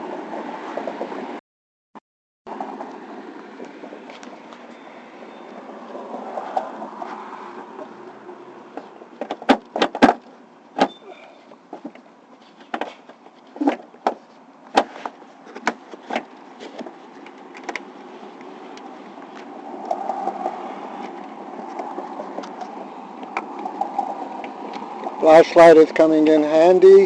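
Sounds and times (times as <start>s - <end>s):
hum of passing traffic: 0.0s - 1.4s, 2.5s - 27.0s.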